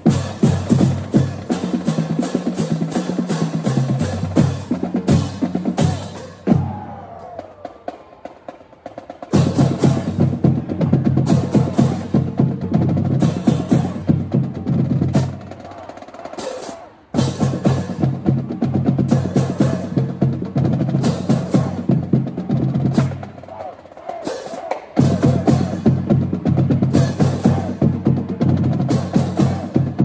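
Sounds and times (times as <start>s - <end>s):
marching drums and crash cymbals: 0.0s - 30.0s.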